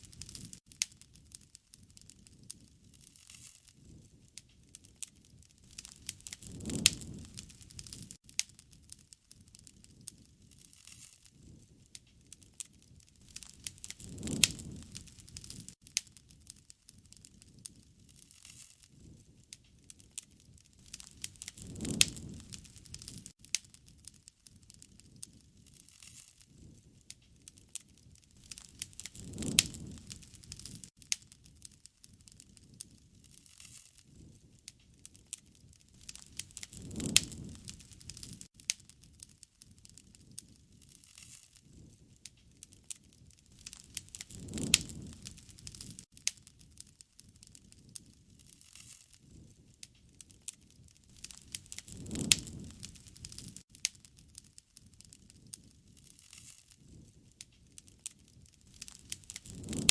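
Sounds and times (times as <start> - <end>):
campfire crackling and popping: 0.0 - 59.9
low rush of flame: 0.0 - 59.9.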